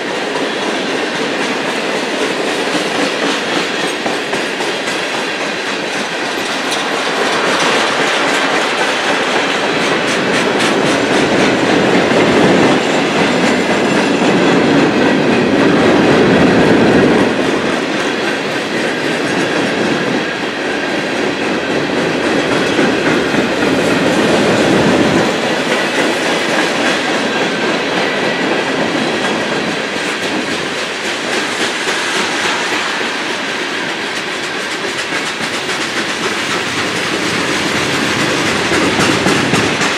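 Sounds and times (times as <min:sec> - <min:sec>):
railroad cars rolling on rails: 0:00.0 - 0:39.9
wheels clacking over rail joints: 0:00.0 - 0:39.9.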